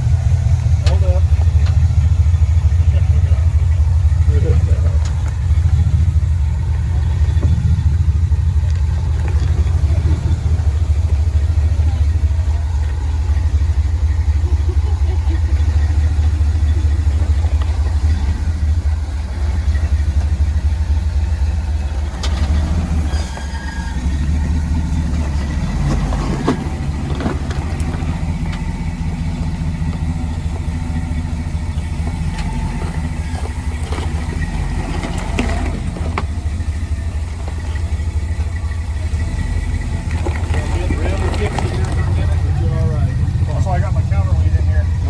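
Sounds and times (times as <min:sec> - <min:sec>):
engine low drone under load: 0:00.0 - 0:45.0.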